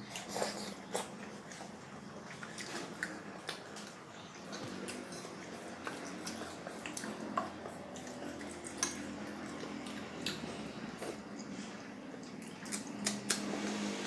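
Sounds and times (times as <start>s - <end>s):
mouth chewing noodles: 0.0s - 13.8s
low steady hum: 0.0s - 14.0s.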